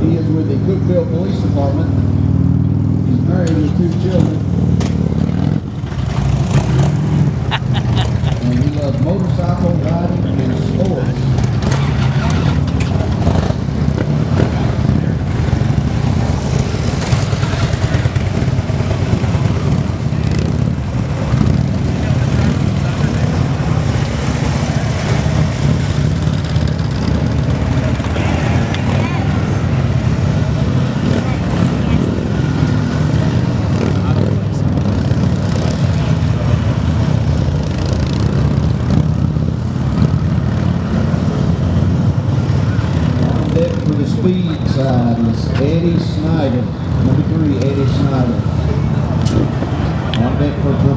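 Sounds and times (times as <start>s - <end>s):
motorcycle engine rumble: 0.0s - 50.9s.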